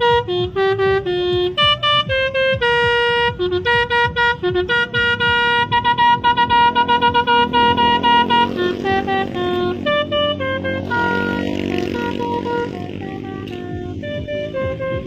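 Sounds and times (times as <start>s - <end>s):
horn playing staccato tune: 0.0s - 15.0s.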